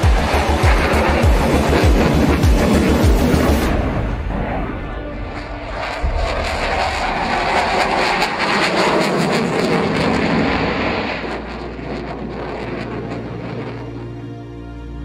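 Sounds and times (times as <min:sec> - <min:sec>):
jet engine roar: 0:00.0 - 0:15.0
low music drone: 0:00.0 - 0:15.0.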